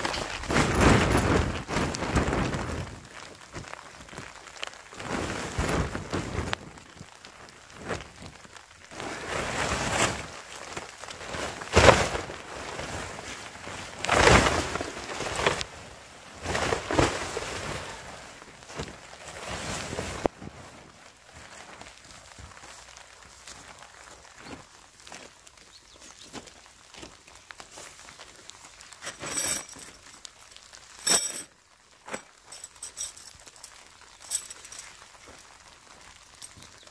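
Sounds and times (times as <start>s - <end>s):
nylon tent fly rustling: 0.0s - 36.9s.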